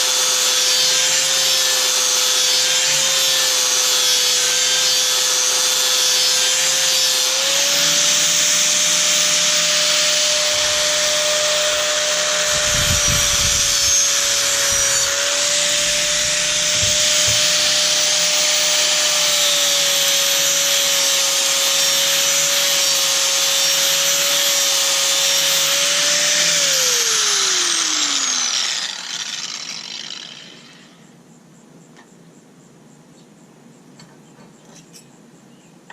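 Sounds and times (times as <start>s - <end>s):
angle grinder grinding metal: 0.0s - 31.0s
grinder disc spinning down: 0.0s - 31.0s.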